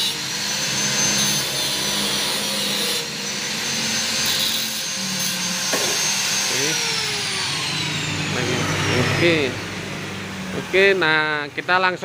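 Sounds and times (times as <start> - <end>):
angle grinder cutting metal: 0.0 - 11.4.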